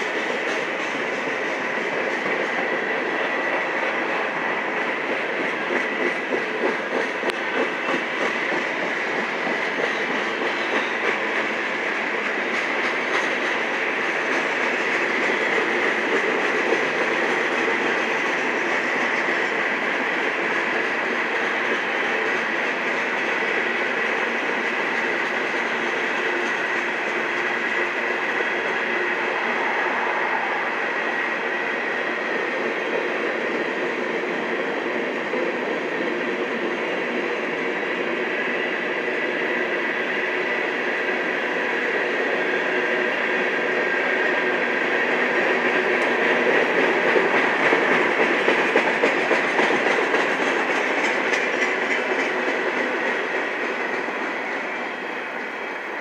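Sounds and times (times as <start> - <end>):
railroad cars rolling on rails: 0.0 - 56.0.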